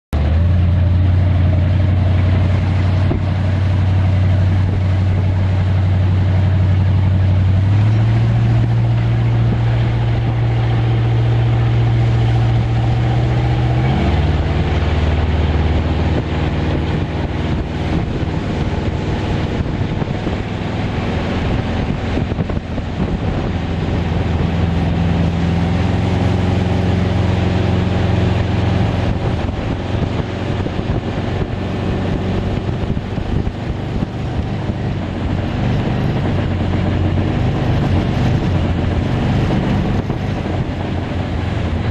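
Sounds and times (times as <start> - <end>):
boat engine running: 0.1 - 41.9.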